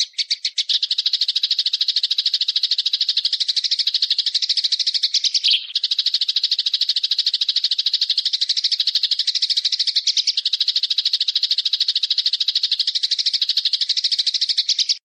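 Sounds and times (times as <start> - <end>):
small bird trilling: 0.0 - 15.0.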